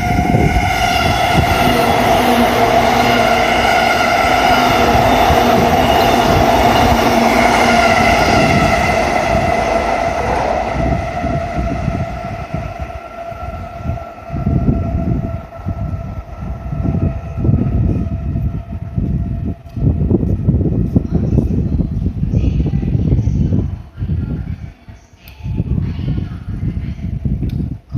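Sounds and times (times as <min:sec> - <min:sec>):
low buffeting: 0:00.0 - 0:24.4.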